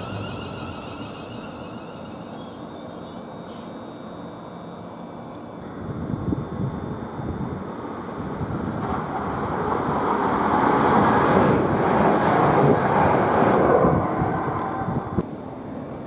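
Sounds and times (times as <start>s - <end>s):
electric train passing: 0.0s - 5.7s, 7.1s - 15.2s.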